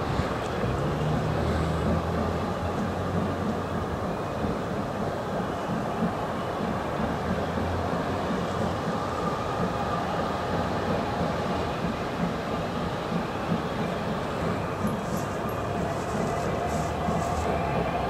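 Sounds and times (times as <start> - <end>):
steam locomotive chuffing: 0.0 - 18.0
train noise: 0.0 - 18.0.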